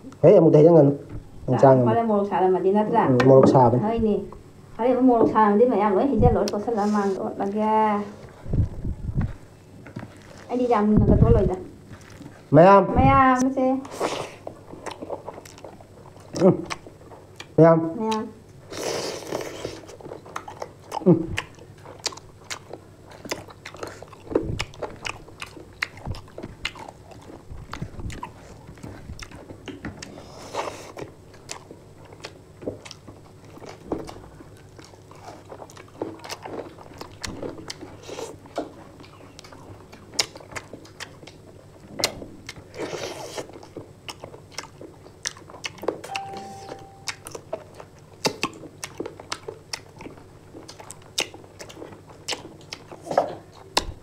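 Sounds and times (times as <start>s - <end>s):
people chewing crunchy food: 6.4s - 10.9s, 11.7s - 12.5s, 13.8s - 46.2s, 46.8s - 54.0s.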